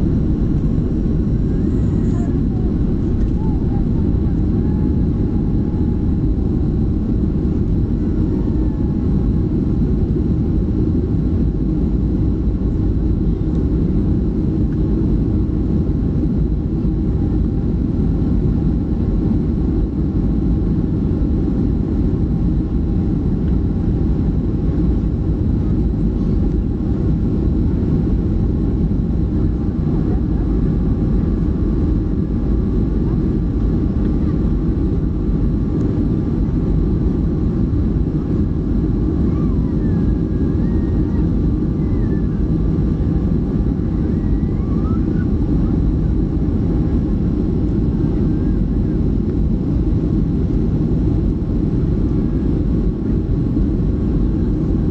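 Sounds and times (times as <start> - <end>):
jet engines deep rumble: 0.0 - 54.9.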